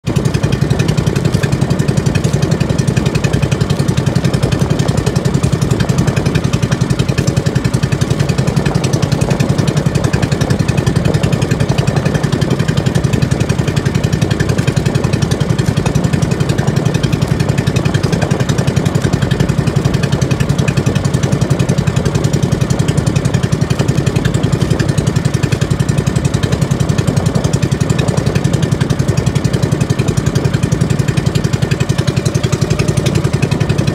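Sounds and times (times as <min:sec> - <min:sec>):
boat engine chugging: 0:00.0 - 0:33.9.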